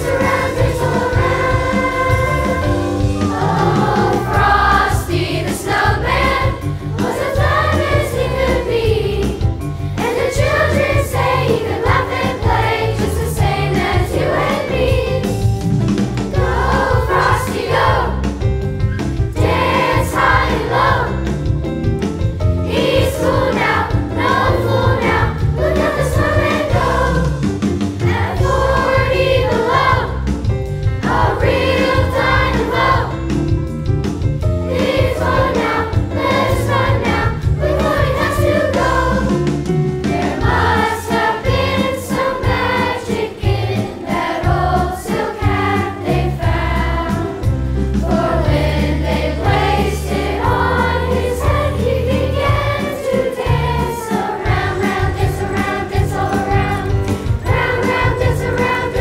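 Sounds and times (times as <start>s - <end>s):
chorus singing: 0.0s - 15.6s, 16.3s - 18.4s, 19.3s - 21.4s, 22.6s - 33.5s, 34.5s - 59.0s
instrumental accompaniment with bass: 0.0s - 59.0s.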